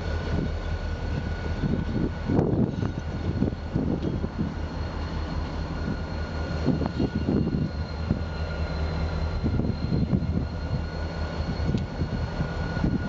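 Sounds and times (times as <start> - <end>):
diesel locomotive engine drone: 0.0 - 13.0
faint high whine: 0.0 - 13.0.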